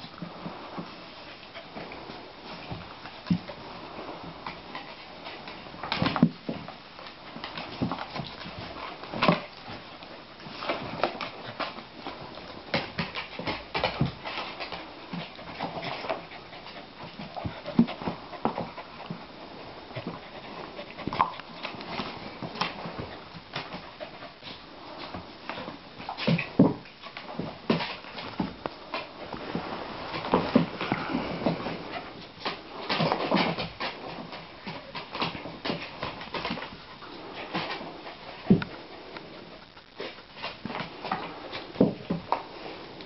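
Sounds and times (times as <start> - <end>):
dogs scuffling on wooden floor: 0.1 - 43.0.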